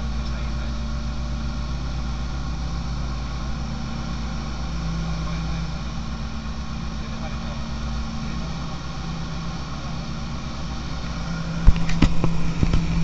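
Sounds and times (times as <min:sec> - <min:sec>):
light aircraft engine running: 0:00.0 - 0:13.0.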